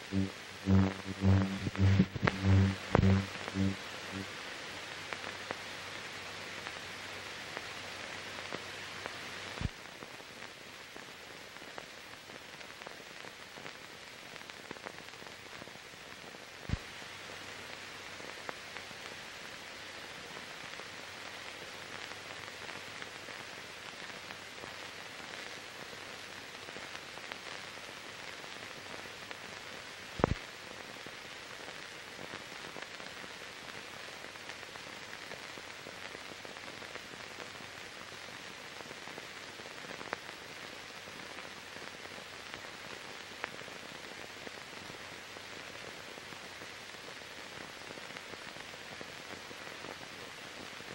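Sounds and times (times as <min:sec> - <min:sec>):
film soundtrack hiss: 0:00.0 - 0:50.9.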